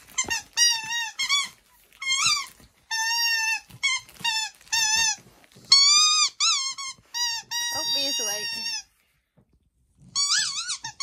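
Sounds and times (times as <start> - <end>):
puppy whining: 0.0 - 8.9, 10.0 - 11.0.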